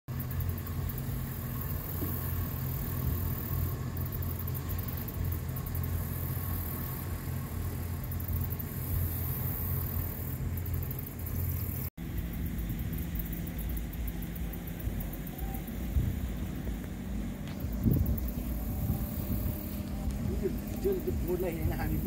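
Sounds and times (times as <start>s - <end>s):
diesel engine rumble: 0.1s - 22.0s.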